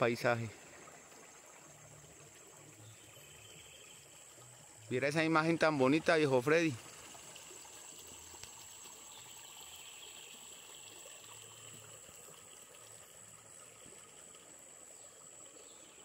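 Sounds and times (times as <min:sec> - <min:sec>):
insects droning: 0:00.0 - 0:16.0
quiet outdoor hiss: 0:00.0 - 0:16.0.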